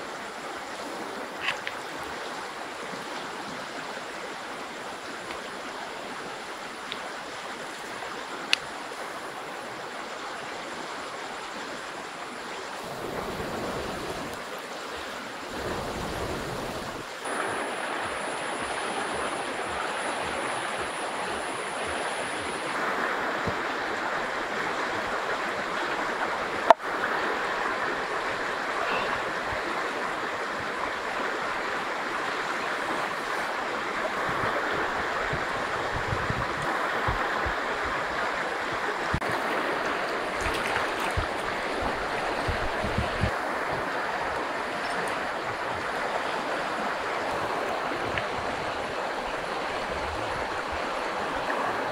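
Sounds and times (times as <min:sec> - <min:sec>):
river water flowing: 0:00.0 - 0:51.9.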